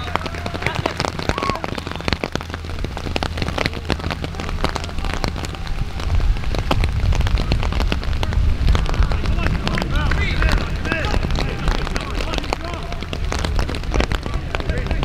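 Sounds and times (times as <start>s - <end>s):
raindrops tapping: 0.0s - 15.0s
wind rumble on microphone: 0.0s - 15.0s.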